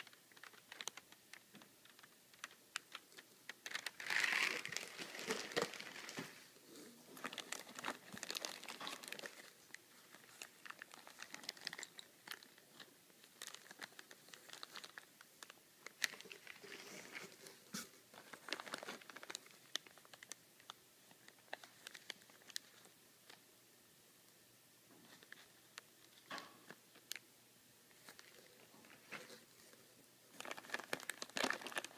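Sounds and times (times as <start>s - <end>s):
plastic bags crinkling: 0.0s - 23.4s, 28.0s - 31.9s.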